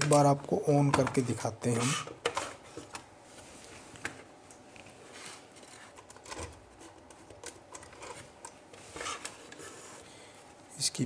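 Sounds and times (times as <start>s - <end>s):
low room hiss: 0.0s - 11.0s.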